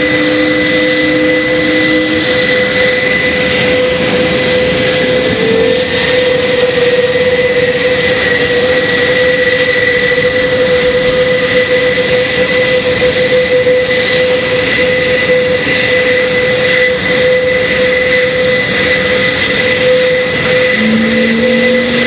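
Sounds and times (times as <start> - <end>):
turboprop engines whining: 0.0 - 22.0.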